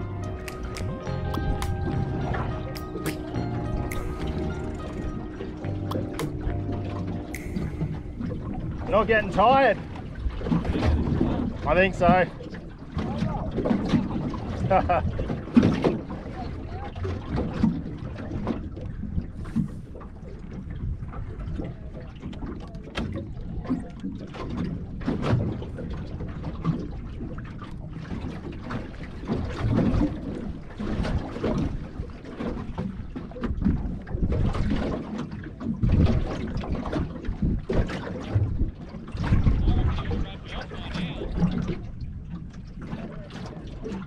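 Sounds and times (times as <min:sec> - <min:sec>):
water lapping against boat hull: 0:00.0 - 0:44.0
wind gusts on microphone: 0:07.2 - 0:44.0.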